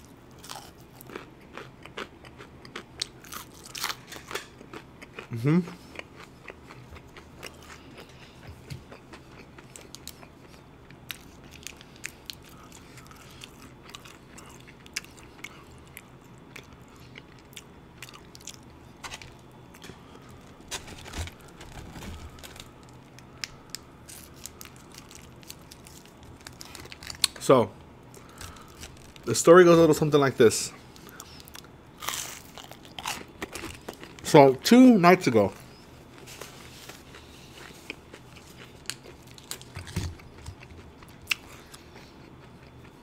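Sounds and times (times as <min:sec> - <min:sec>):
person chewing: 0:00.4 - 0:27.4, 0:30.9 - 0:34.2, 0:36.2 - 0:43.0.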